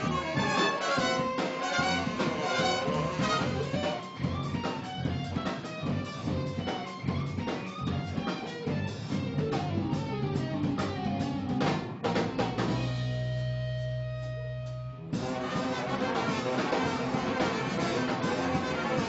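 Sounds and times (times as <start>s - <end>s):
big band playing jazz-rock: 0.0s - 19.0s.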